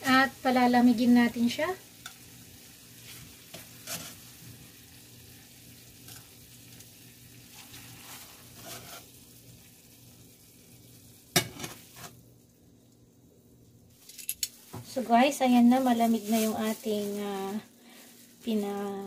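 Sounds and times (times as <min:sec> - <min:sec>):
faint sizzle from pan: 0:00.0 - 0:19.0.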